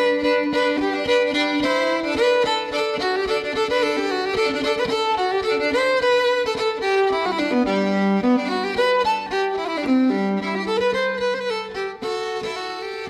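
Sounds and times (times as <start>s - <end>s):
fiddle melody: 0.0s - 13.0s.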